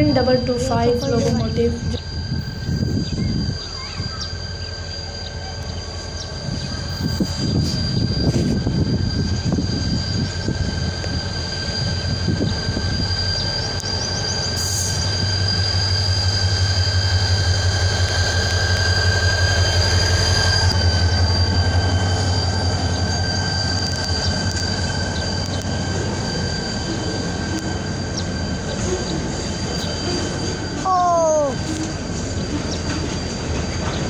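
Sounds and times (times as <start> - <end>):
locomotive engine drone: 0.0 - 34.0
high-pitched wheel squeal: 0.3 - 31.9.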